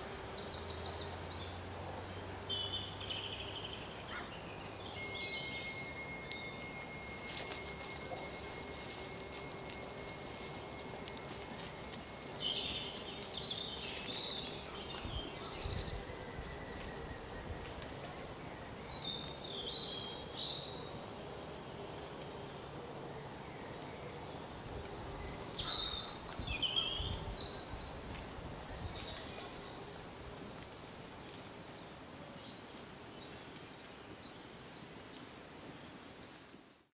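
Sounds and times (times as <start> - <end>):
birds singing and calling: 0.0 - 35.2
faint background hiss: 0.0 - 36.9.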